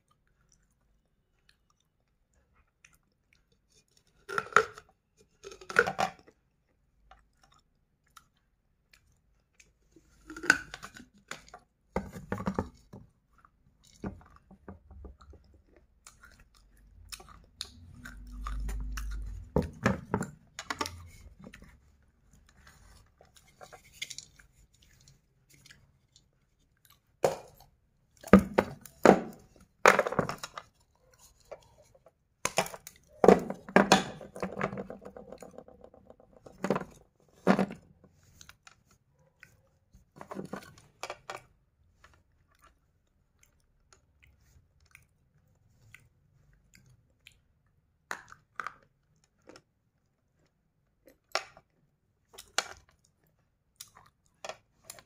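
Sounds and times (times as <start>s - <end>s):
crunching and chewing clay: 0.0s - 33.2s, 36.2s - 55.0s.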